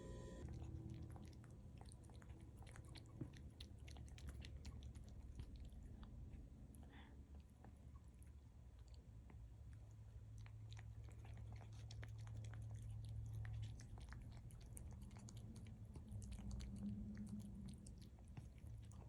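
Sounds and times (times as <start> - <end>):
low steady hum: 0.0 - 19.0
cat chewing food: 0.4 - 19.0.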